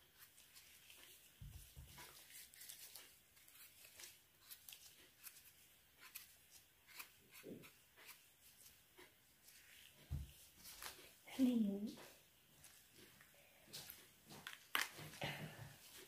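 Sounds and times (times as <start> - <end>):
rustles and clicks of handling: 0.0 - 11.3, 12.0 - 16.0.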